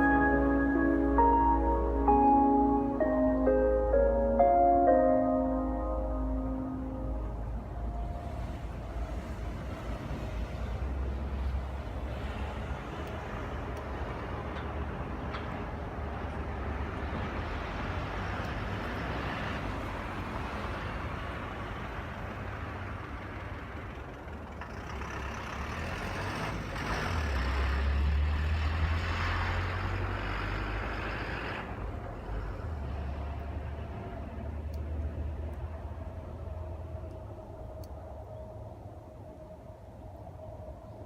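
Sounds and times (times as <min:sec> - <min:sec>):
vehicle passing: 0:00.0 - 0:37.9
expressway traffic noise: 0:00.0 - 0:41.0.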